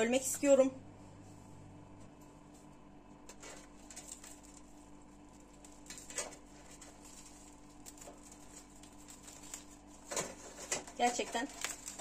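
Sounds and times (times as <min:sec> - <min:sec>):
bread crust crackling: 0:02.2 - 0:12.0.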